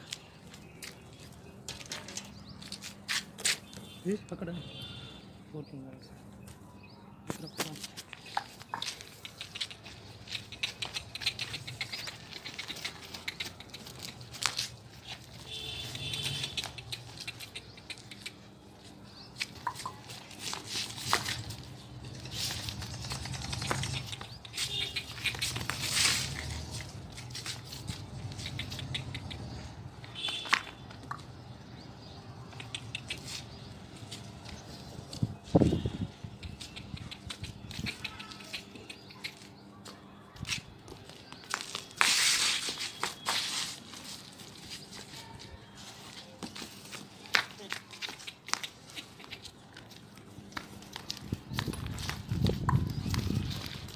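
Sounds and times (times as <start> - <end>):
hooves tapping: 0.0 - 4.0, 7.3 - 53.9.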